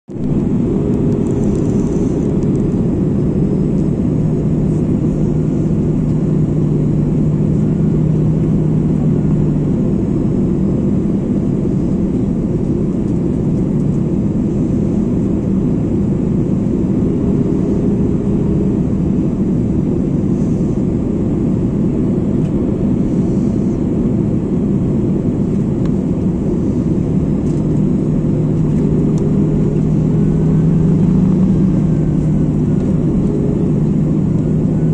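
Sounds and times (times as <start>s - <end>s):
aircraft engine drone: 0.1s - 34.9s
airflow rush: 0.1s - 34.9s
low steady hum: 0.1s - 34.9s.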